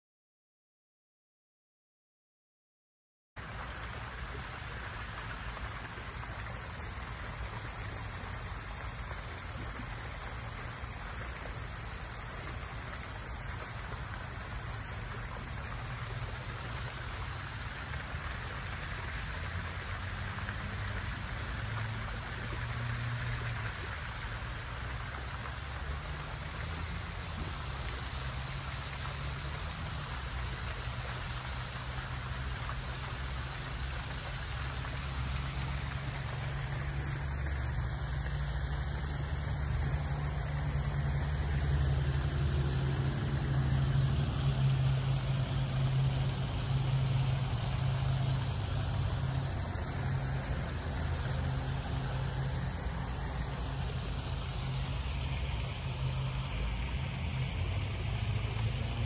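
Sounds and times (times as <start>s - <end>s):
small waterfall splashing: 3.4s - 59.0s.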